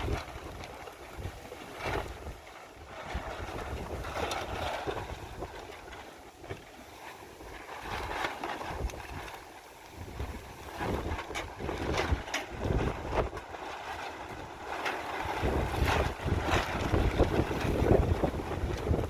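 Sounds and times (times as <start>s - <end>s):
wind buffeting microphone: 0.0s - 6.7s, 7.3s - 19.0s.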